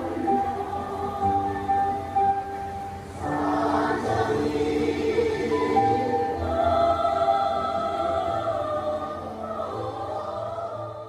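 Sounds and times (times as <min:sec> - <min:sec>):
mixed choir singing chords: 0:00.0 - 0:11.0.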